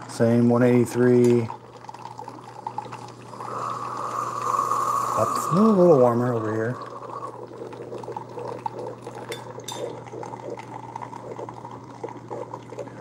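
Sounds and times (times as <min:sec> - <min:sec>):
coffee maker humming: 0:00.0 - 0:13.0
coffee streaming into mugs: 0:00.1 - 0:13.0.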